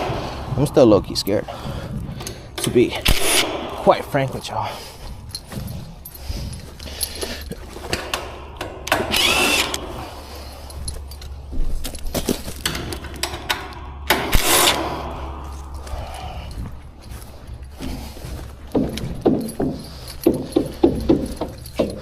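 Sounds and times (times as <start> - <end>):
metallic clinking and rattling: 0.0 - 22.0
steady low hum: 0.0 - 22.0.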